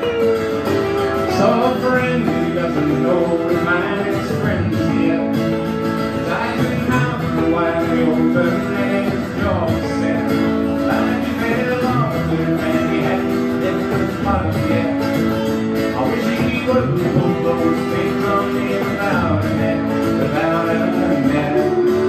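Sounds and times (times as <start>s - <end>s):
electric guitar: 0.0s - 22.0s
strummed acoustic guitar: 0.0s - 22.0s.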